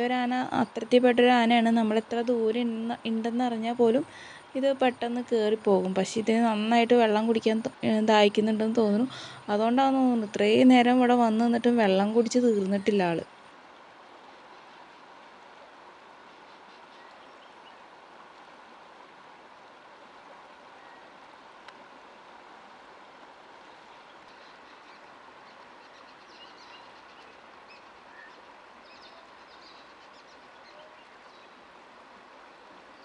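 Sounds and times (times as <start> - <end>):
shallow river flowing: 0.0 - 33.0.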